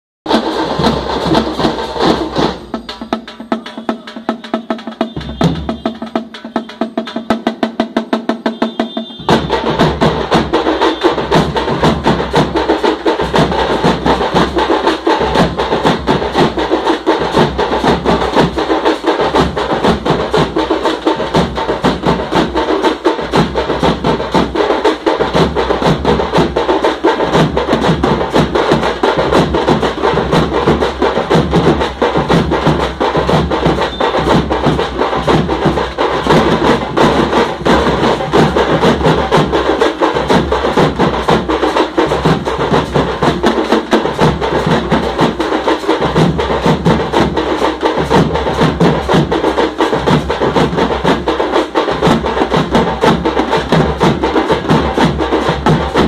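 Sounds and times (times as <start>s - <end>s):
frame drums beaten with sticks: 0.3s - 56.0s.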